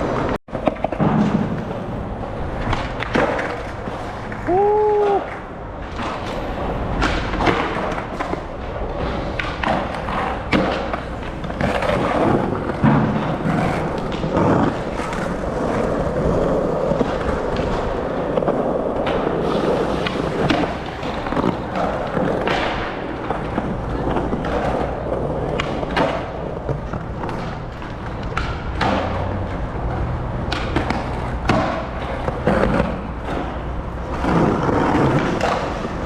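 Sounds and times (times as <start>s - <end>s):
skateboard clacks and thuds: 0.0s - 36.0s
skateboard wheels rolling on concrete: 0.0s - 36.0s.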